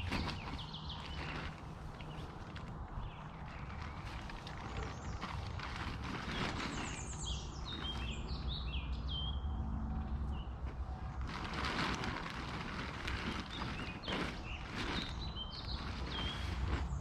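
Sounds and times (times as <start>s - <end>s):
rustling noise: 0.0s - 8.5s, 9.9s - 17.0s.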